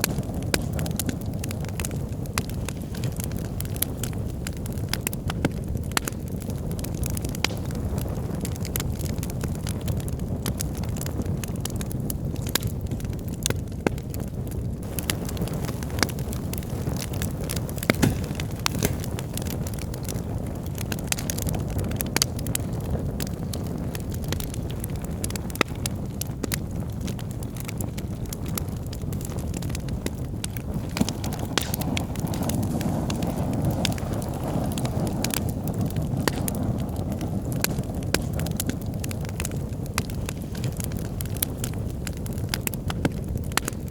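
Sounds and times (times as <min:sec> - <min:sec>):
logs burning in a fireplace: 0:00.0 - 0:43.9.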